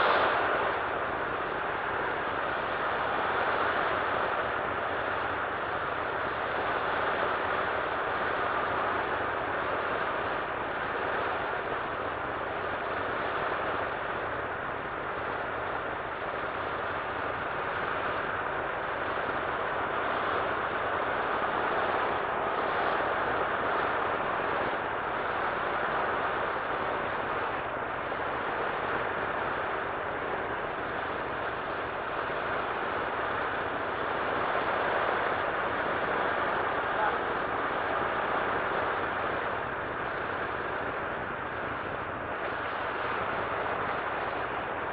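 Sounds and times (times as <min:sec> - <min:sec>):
aircraft radial engines droning: 0:00.0 - 0:44.9.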